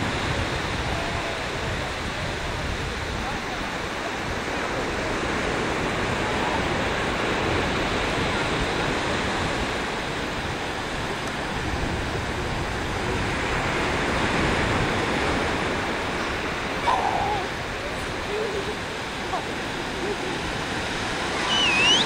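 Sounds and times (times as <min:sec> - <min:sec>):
waves breaking on a beach: 0:00.0 - 0:22.0.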